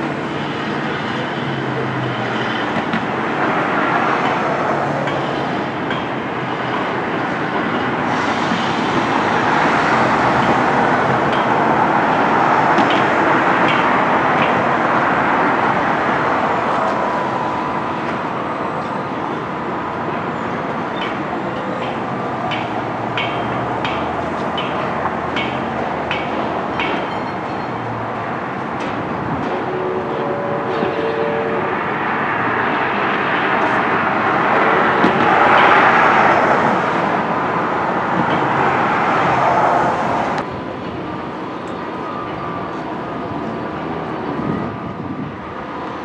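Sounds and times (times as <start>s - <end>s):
train rolling past: 0.0s - 46.0s.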